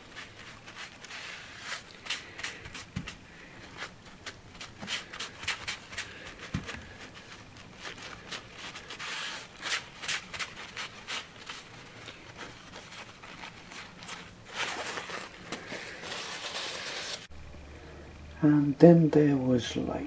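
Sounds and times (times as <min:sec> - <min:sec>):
paper tissue rustling: 0:00.0 - 0:17.3.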